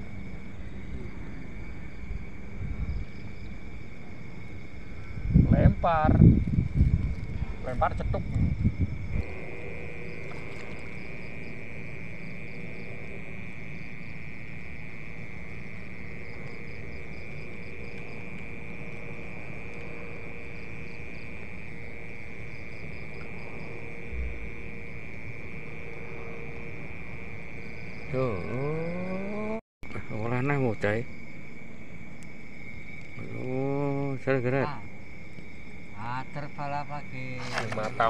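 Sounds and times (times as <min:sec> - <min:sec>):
crickets trilling: 0:00.0 - 0:38.0
faint low hum: 0:00.0 - 0:38.0.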